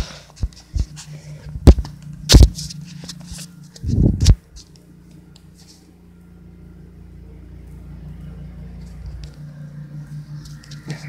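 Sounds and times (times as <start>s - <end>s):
faint pulsing hum: 0.0s - 11.0s.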